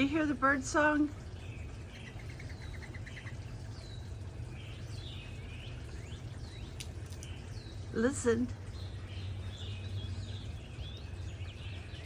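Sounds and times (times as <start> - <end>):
low background rumble: 0.0 - 12.0
songbirds singing: 0.0 - 12.0.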